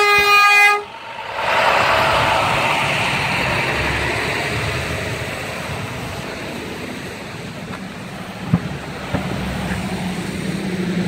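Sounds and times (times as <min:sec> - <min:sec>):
passing vehicle rush: 0:00.6 - 0:11.0.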